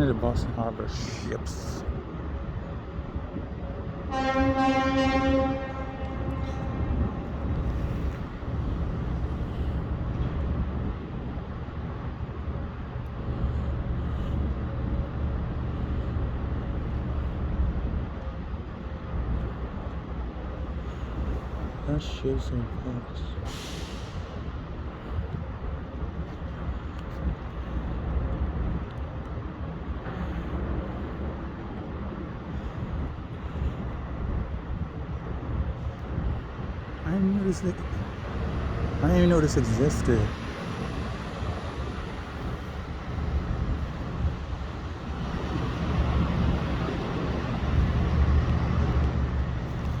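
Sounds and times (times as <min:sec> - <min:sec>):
engine rumble: 0:00.0 - 0:50.0
outdoor noise: 0:00.0 - 0:50.0
wind buffeting microphone: 0:01.5 - 0:21.8, 0:23.4 - 0:39.0, 0:40.1 - 0:50.0.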